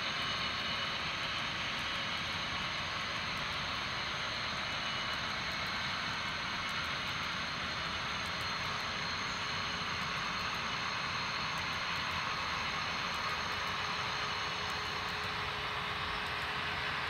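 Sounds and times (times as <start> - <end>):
model train whirring hiss: 0.0 - 17.0.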